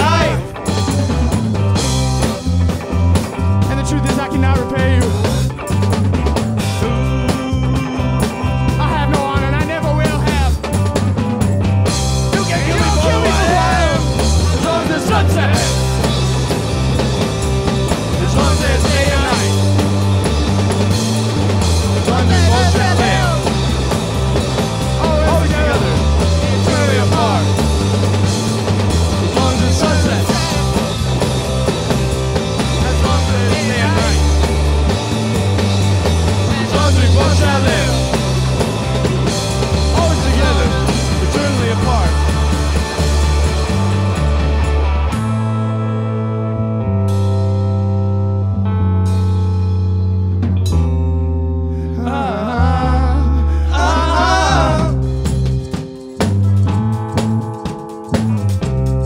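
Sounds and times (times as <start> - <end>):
rock band playing live: 0.0 - 52.6, 53.4 - 59.0.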